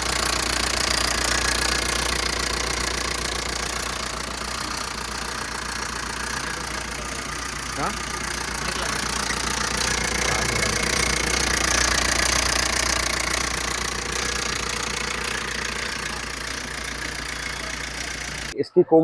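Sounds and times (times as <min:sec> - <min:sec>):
diesel engine knocking idle: 0:00.0 - 0:18.6.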